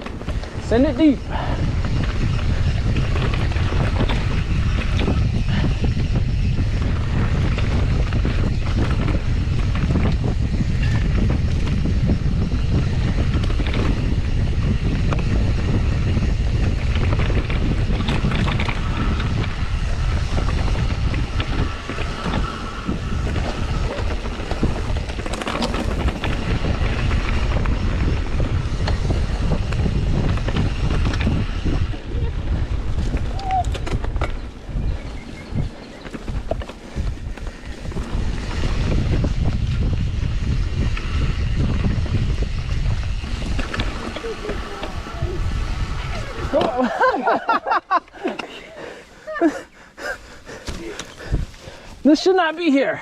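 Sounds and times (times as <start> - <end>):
bike rattling and knocking: 0.0 - 48.8
bike tyres rumbling over dirt: 0.0 - 53.0
wind buffeting microphone: 0.0 - 53.0.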